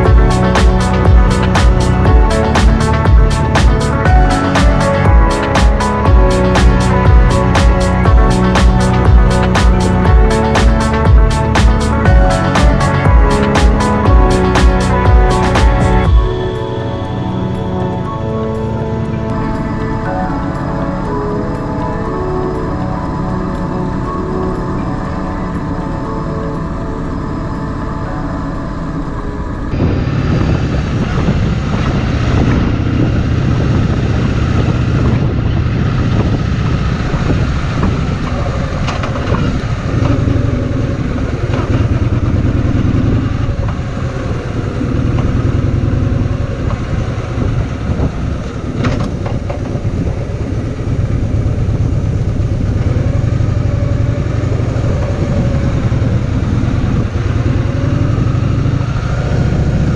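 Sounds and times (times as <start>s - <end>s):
motorcycle engine running: 0.0s - 18.2s, 29.8s - 59.9s.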